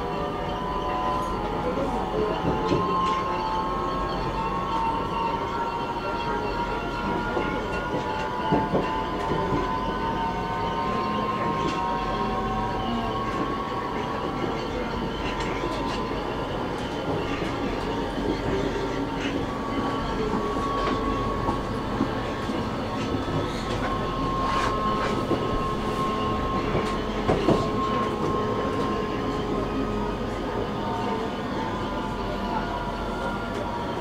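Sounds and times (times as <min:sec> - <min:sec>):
metro train rumble: 0:00.0 - 0:34.0.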